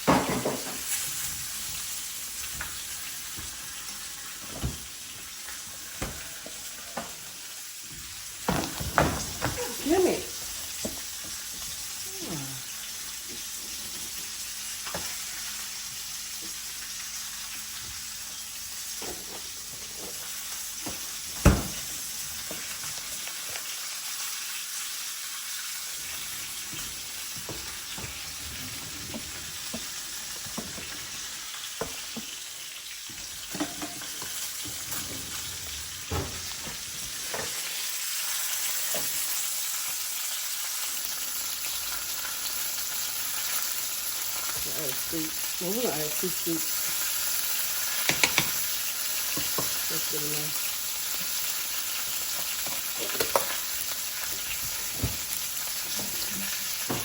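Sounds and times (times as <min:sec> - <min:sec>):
food sizzling in a skillet: 0:00.0 - 0:08.5, 0:09.5 - 0:36.2, 0:37.0 - 0:57.0.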